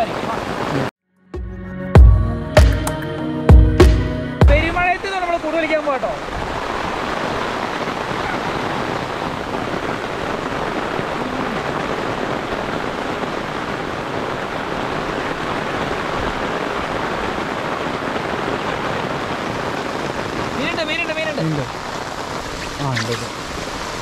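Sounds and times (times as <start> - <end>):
heavy rain pouring: 0.0 - 0.9, 4.4 - 24.0.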